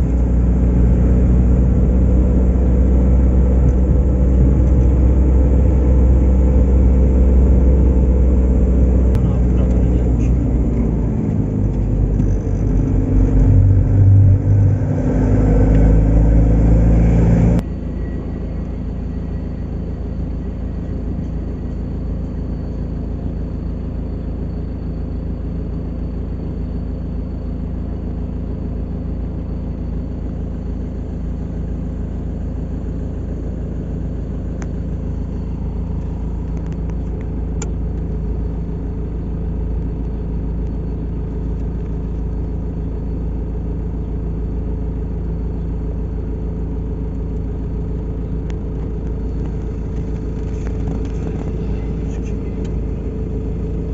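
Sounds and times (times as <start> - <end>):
engine running with low rumble: 0.0 - 53.9.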